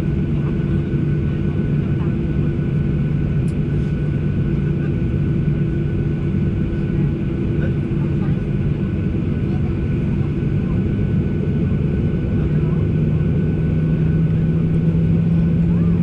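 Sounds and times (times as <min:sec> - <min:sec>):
airplane cabin engine drone: 0:00.0 - 0:16.0.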